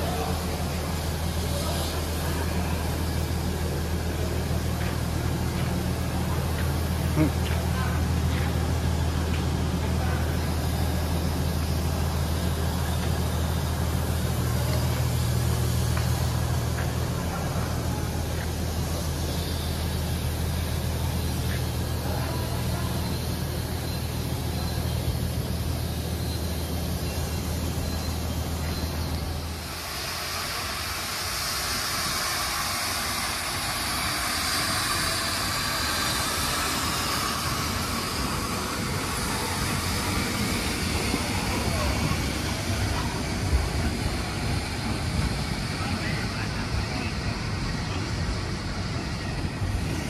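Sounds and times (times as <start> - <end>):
steam hissing: 0.0 - 50.0
steam locomotive low hum: 0.0 - 50.0.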